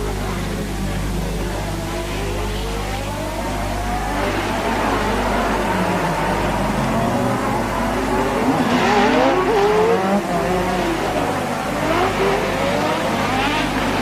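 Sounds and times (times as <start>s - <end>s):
race car engines at full throttle: 0.0s - 14.0s
steady low hum: 0.0s - 14.0s.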